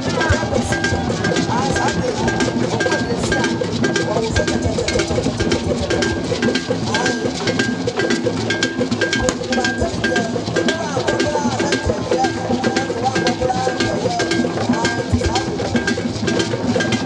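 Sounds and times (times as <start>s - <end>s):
barrel drums beating fast rhythm: 0.0s - 17.0s.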